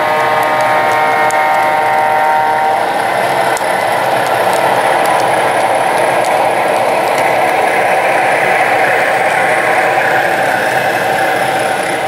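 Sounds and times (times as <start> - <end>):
model train running: 0.0 - 12.0.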